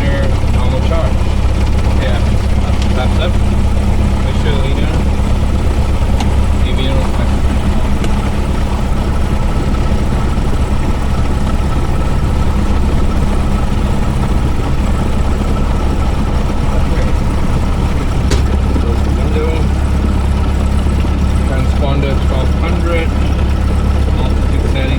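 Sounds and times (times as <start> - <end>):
aircraft engine and propeller idling: 0.0 - 24.9.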